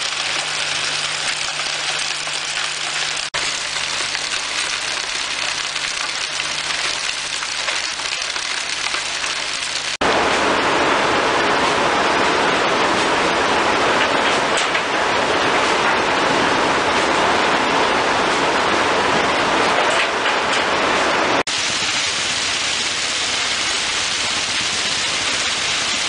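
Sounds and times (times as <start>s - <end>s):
machinery humming: 0.0s - 26.0s
water and wet coal rushing: 0.0s - 26.0s.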